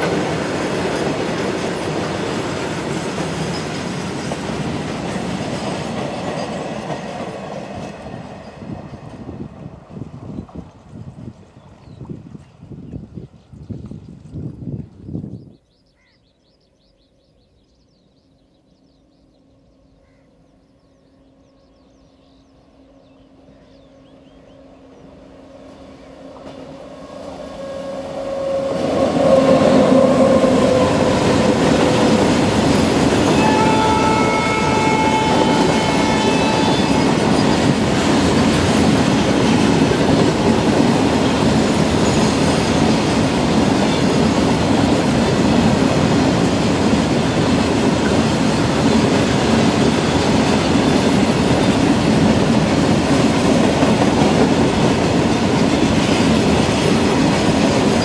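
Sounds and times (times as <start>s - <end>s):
electric locomotive whine: 0.0s - 15.2s, 17.6s - 58.0s.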